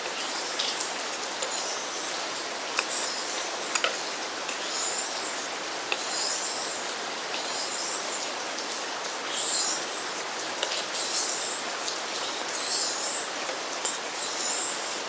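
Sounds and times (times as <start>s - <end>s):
steady hiss: 0.0s - 15.0s
knife scraping on sharpening stone: 1.4s - 2.2s, 2.8s - 8.4s, 9.3s - 15.0s.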